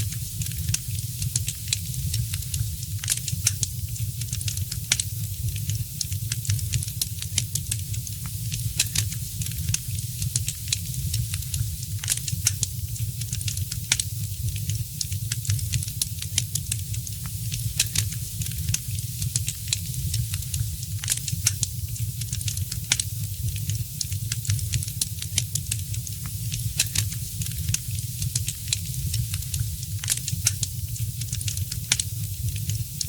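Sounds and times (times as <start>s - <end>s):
wood fire crackling: 0.0s - 32.8s.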